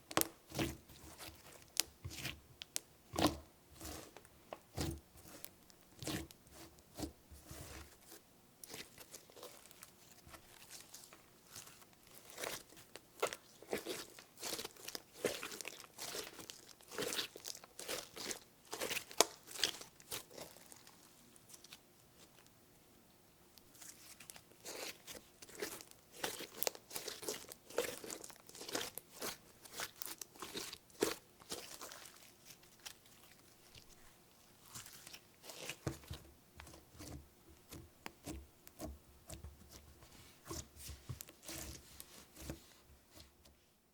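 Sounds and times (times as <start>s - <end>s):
hands squishing slime: 0.0s - 22.4s, 23.6s - 43.4s.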